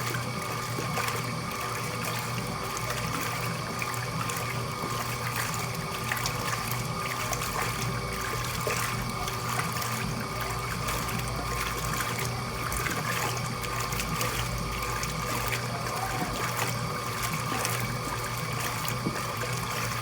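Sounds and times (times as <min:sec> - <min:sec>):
washing machine motor hum: 0:00.0 - 0:20.0
water swishing in drum: 0:00.0 - 0:20.0.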